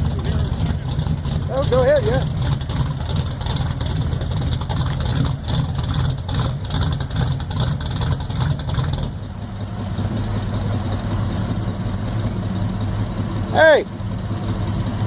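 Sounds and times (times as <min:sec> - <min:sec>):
car engine rumbling at idle: 0:00.0 - 0:15.0.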